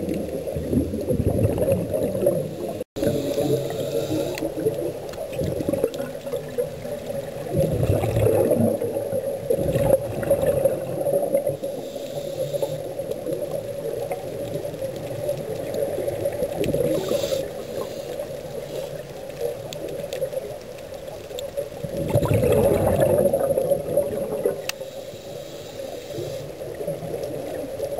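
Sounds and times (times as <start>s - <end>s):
underwater bubbles gurgling: 0.0s - 27.9s.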